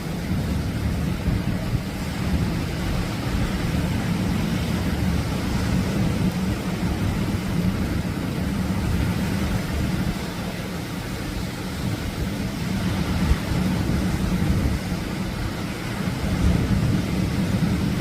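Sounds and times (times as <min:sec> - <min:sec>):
surf waves breaking on beach: 0:00.0 - 0:18.0.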